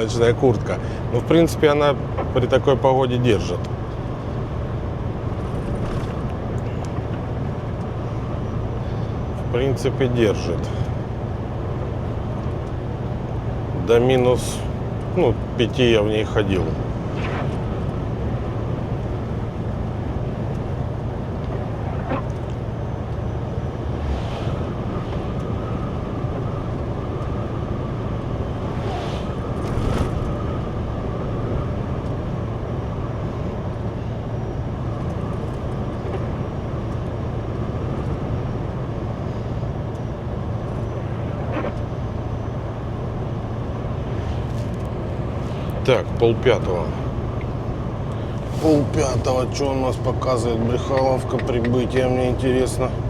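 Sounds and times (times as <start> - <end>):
road noise: 0.0 - 53.0
truck engine drone: 0.0 - 53.0.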